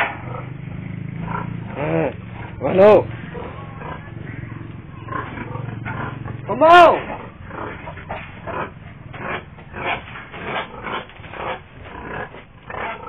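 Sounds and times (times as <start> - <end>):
boar grunting: 0.0 - 13.0.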